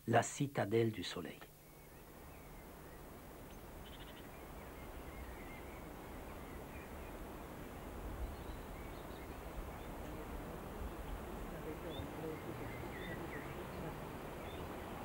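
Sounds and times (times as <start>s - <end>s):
wind through tall grass: 1.2s - 15.0s.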